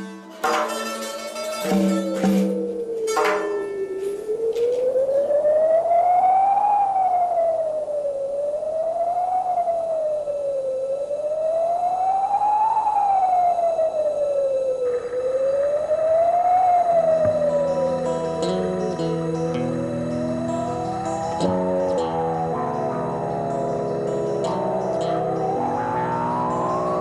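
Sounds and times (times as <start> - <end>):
siren-like wailing tone: 0.0 - 27.0.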